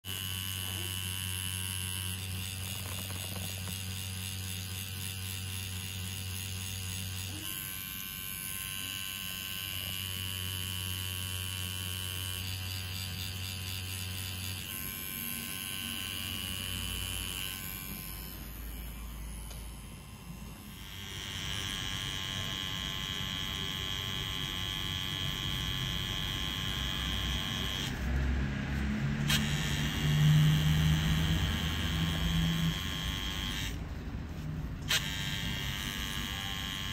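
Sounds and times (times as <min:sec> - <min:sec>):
tattoo machine buzzing: 0:00.0 - 0:36.9.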